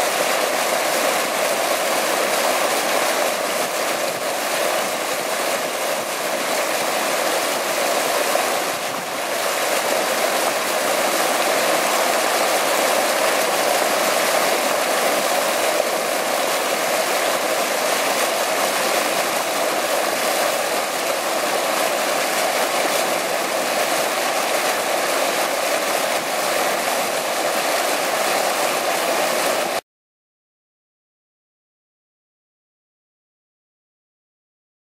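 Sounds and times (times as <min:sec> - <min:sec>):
water splashing from fountain: 0:00.0 - 0:29.8.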